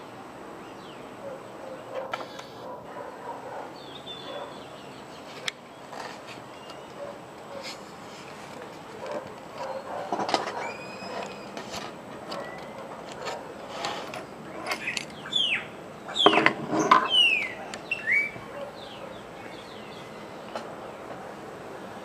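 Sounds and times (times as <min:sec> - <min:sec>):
birds calling: 0:00.0 - 0:22.0
steady background hiss: 0:00.0 - 0:22.0.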